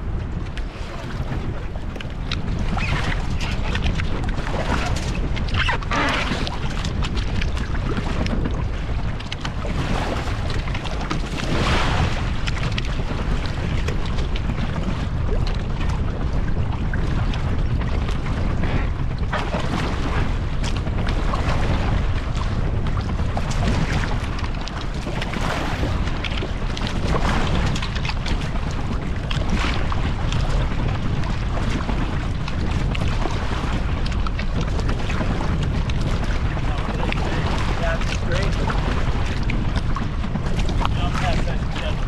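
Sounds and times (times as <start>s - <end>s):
water rushing past hulls: 0.0s - 42.0s
wind buffeting microphone: 0.0s - 42.0s.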